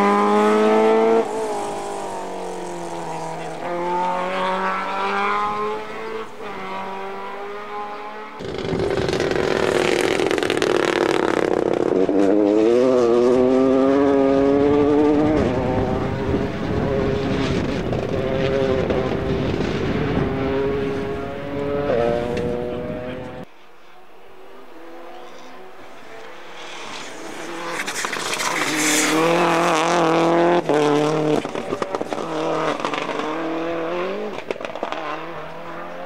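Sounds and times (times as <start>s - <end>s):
car running hard close by: 0.0s - 36.0s
rally car engines revving: 0.0s - 36.0s.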